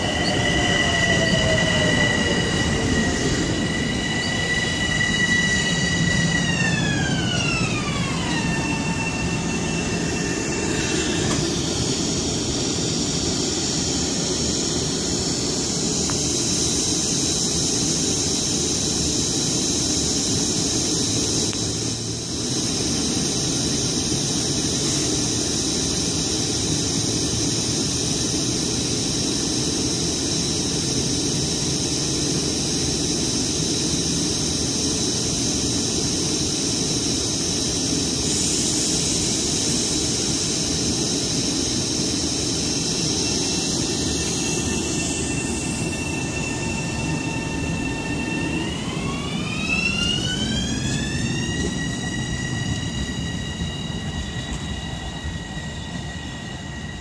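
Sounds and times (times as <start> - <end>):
train equipment humming and hissing: 0.0 - 57.0.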